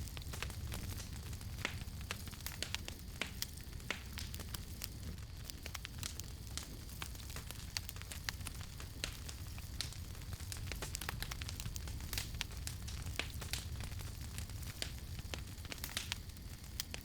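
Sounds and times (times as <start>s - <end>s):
campfire crackling and popping: 0.0s - 17.0s
low rumble and hiss: 0.0s - 17.0s.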